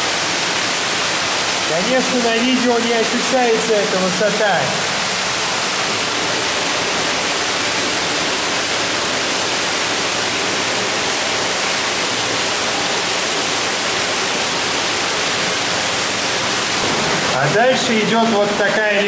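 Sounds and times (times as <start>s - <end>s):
water rushing down a drop: 0.0s - 19.0s.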